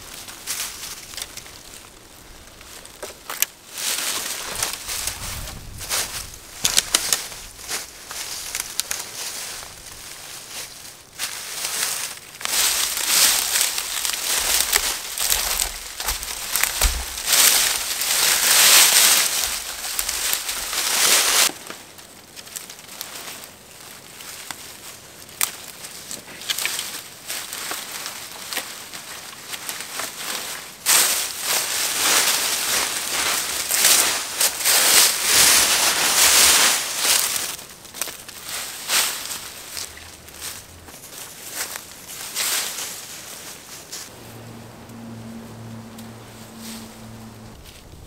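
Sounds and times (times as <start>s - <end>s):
dry leaves rustling and crunching: 0.0s - 48.0s.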